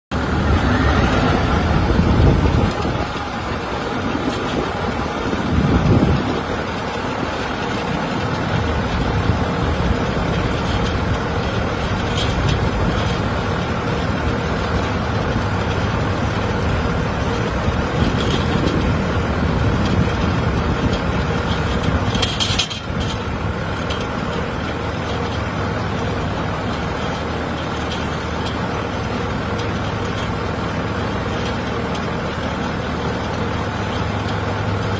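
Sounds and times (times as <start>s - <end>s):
engine rumble: 0.1s - 34.9s.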